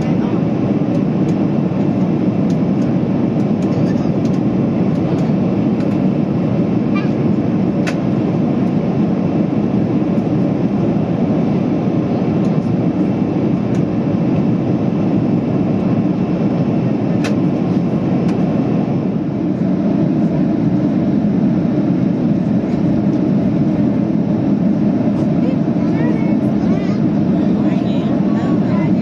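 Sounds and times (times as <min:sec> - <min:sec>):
jet airliner cabin noise: 0:00.0 - 0:29.0.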